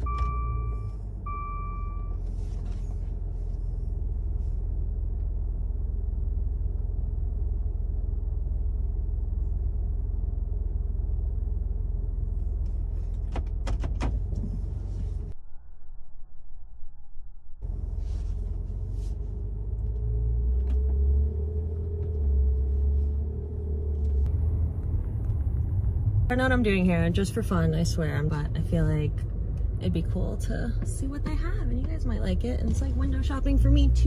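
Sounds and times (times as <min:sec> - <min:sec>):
car engine low rumble: 0:00.0 - 0:34.0.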